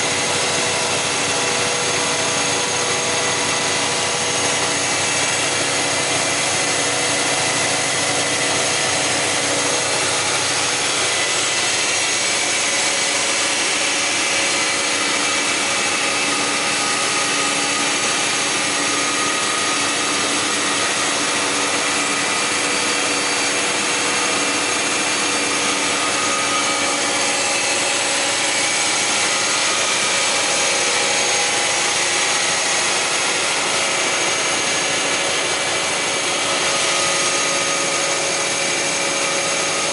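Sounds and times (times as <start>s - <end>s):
planer machine whining: 0.0s - 39.9s.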